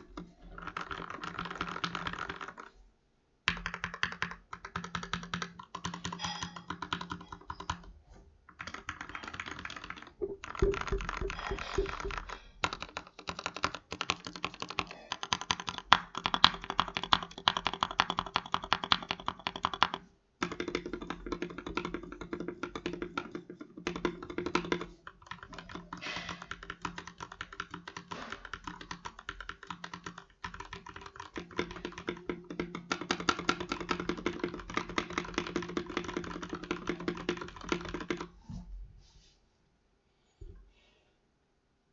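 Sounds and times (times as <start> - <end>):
mechanical keyboard typing: 0.0 - 2.7, 3.5 - 7.9, 8.5 - 38.3.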